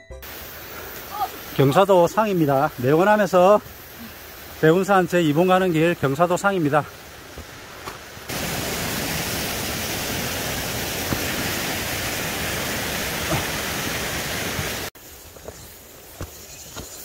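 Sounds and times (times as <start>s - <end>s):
flowing stream water: 0.2s - 16.4s.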